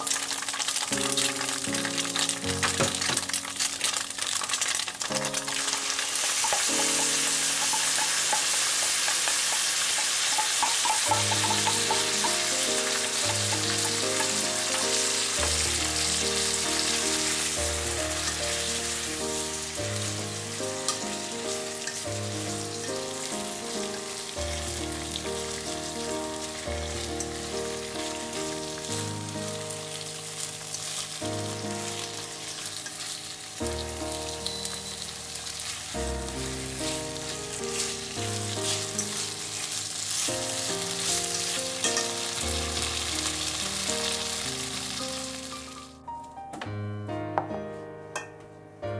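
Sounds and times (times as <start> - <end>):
sauce sizzling in a frying pan: 0.0 - 46.0.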